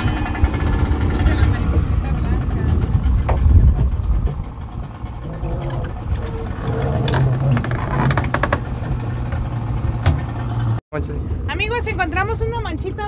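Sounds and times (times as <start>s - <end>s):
outboard motor humming: 0.0s - 13.0s.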